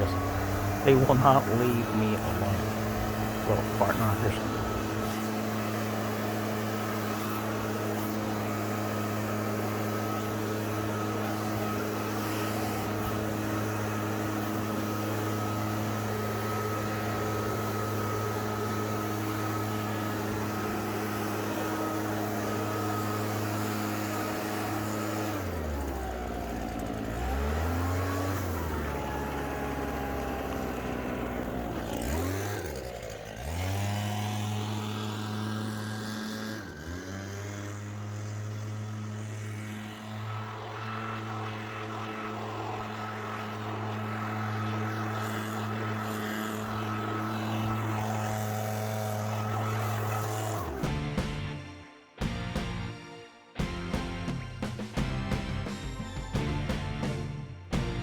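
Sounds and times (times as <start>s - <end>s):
small gas engine revving: 0.0s - 51.8s.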